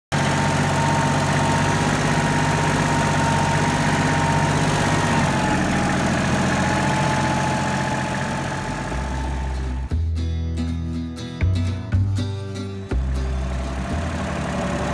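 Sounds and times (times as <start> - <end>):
tractor engine running: 0.0 - 10.1, 11.9 - 14.9.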